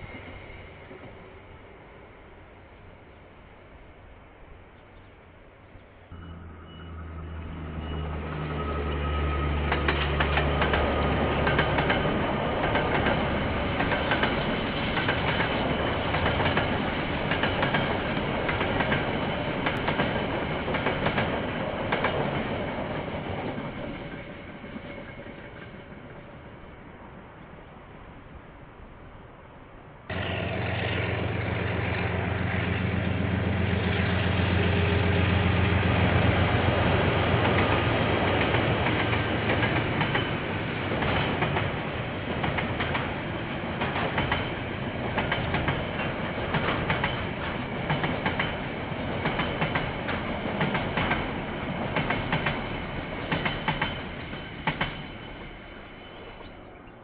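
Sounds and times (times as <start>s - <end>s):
diesel locomotive engine hum: 0.0s - 57.0s.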